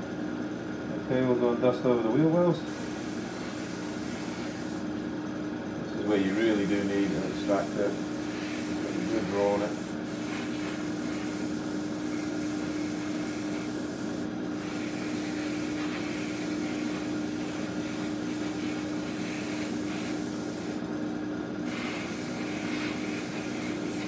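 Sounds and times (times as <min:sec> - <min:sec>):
extractor fan humming: 0:00.0 - 0:24.0
airbrush hissing: 0:02.7 - 0:04.9, 0:06.0 - 0:20.8, 0:21.6 - 0:24.0.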